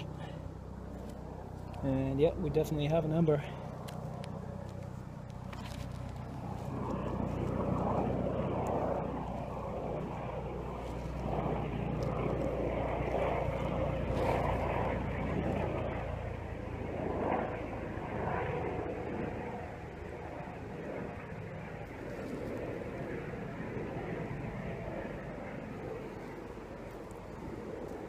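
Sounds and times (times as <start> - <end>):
low engine drone: 0.0 - 28.0.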